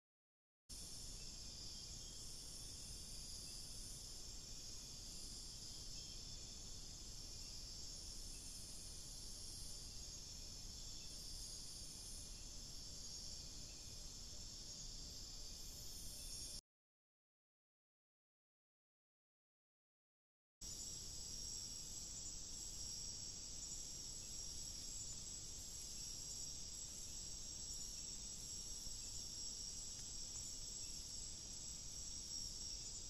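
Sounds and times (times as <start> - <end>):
insects trilling: 0.7 - 16.6, 20.6 - 33.0
low even hiss: 0.7 - 16.6, 20.6 - 33.0.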